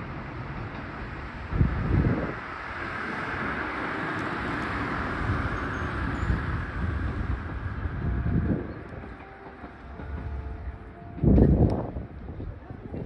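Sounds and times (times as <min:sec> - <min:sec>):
distant electric train running: 0:00.0 - 0:13.0
wind gusting on microphone: 0:00.0 - 0:13.0.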